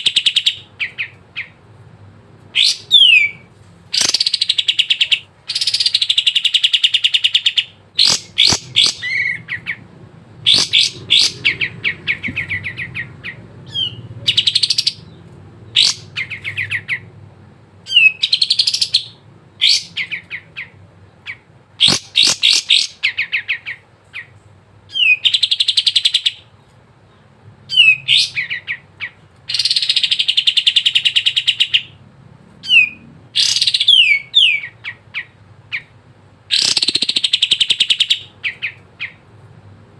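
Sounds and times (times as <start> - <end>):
bulbul singing trills and whistles: 2.6 - 9.8, 10.4 - 17.1, 17.9 - 26.5, 27.1 - 32.0, 32.6 - 35.9, 36.5 - 39.2.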